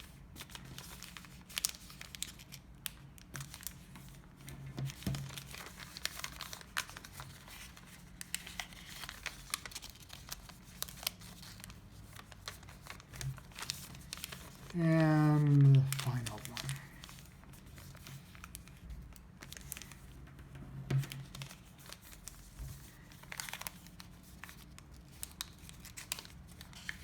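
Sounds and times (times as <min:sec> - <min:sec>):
paper being creased and folded: 0:00.0 - 0:20.1, 0:20.9 - 0:27.0.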